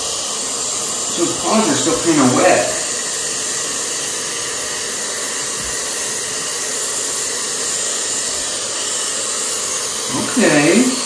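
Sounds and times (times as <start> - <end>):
pet dryer blowing air: 0.0 - 11.0.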